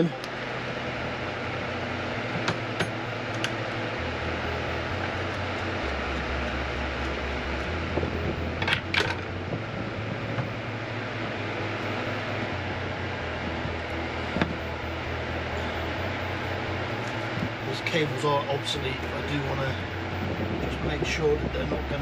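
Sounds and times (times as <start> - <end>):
fan whoosh with low hum: 0.0 - 22.0.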